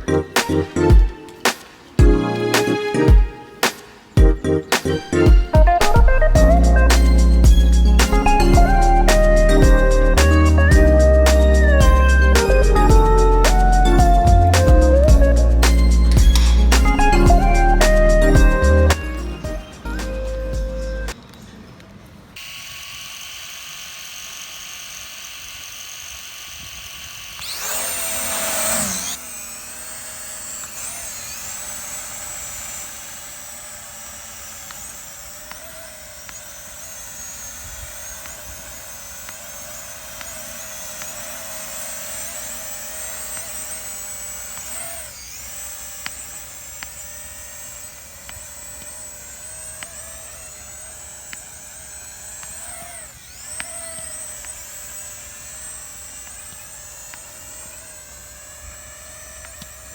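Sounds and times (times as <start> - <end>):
drone propellers whining: 0.0 - 21.2, 22.4 - 59.9.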